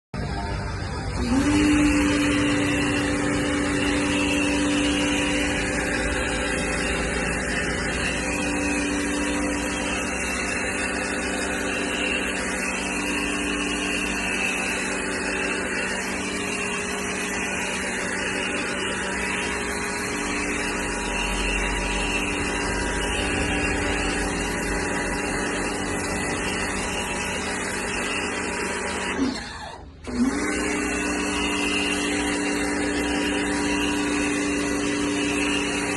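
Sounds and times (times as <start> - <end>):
pressure washer running: 0.2 - 35.9.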